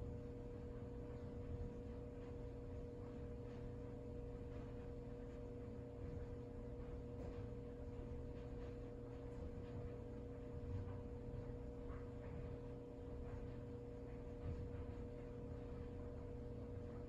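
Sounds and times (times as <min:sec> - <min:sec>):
low hum with steady tones: 0:00.0 - 0:17.0.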